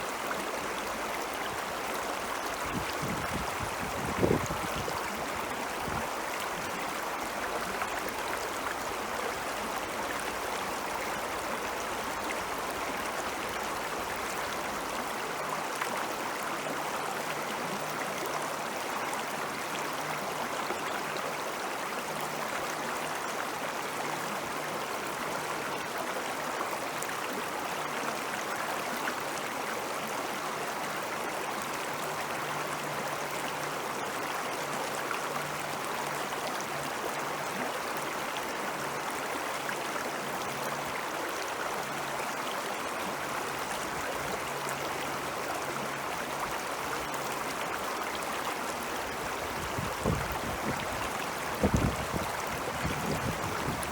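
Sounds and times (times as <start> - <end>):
stream water rushing: 0.0 - 53.9.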